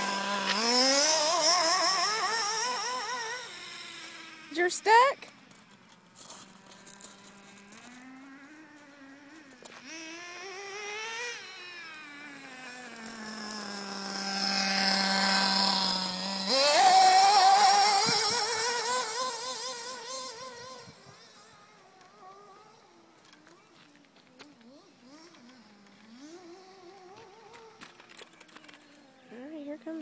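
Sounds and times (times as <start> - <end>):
small engine of toy car revving: 0.0 - 30.0.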